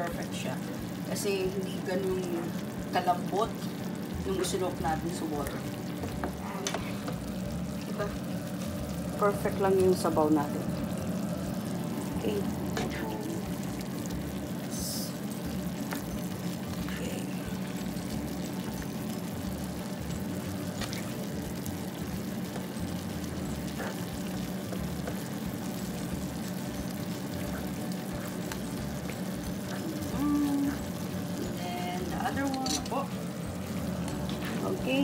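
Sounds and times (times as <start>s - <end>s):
broth simmering in a pan: 0.0s - 35.0s.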